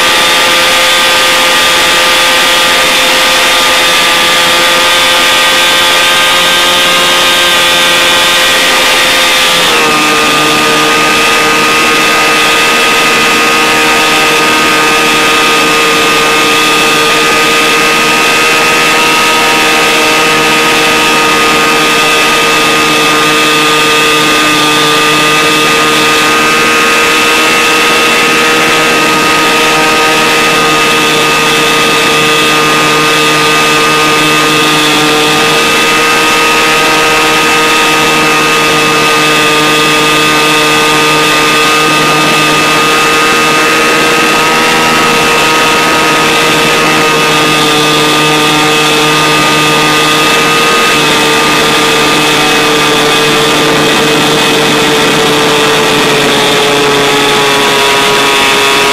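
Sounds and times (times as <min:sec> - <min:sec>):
airplane engine and propeller drone: 0:00.0 - 0:58.9
heavy rushing wind: 0:07.8 - 0:58.9.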